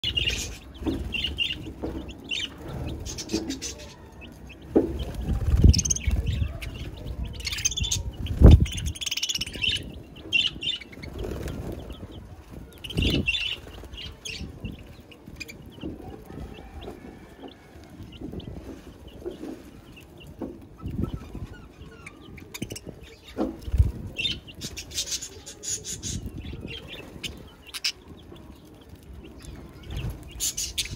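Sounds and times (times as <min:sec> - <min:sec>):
budgerigars and chicks chirping: 0:00.0 - 0:30.9.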